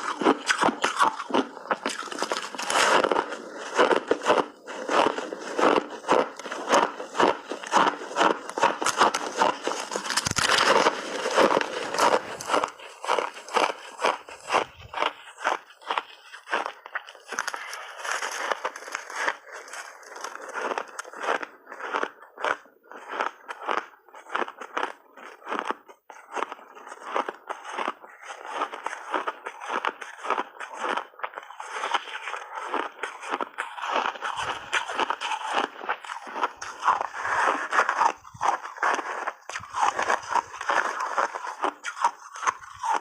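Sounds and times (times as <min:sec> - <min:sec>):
teeth crunching ice: 0:00.0 - 0:43.0.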